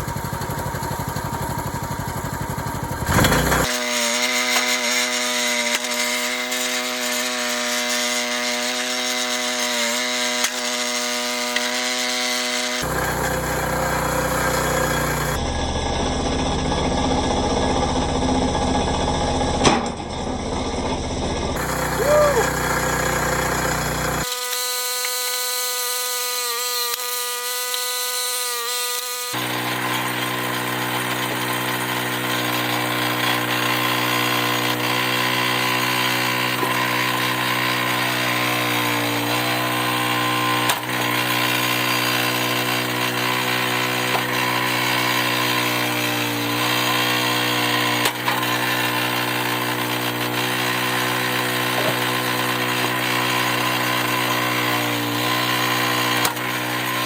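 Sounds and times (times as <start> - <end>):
log splitter engine running: 0.0 - 57.0.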